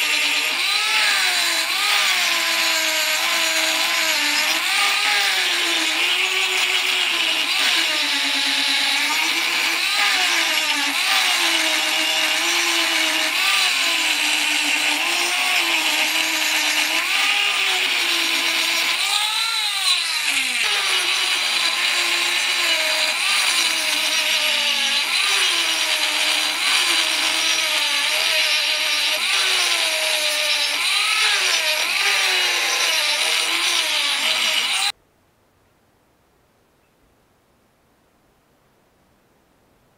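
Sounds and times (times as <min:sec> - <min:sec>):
angle grinder grinding steel: 0:00.0 - 0:34.9.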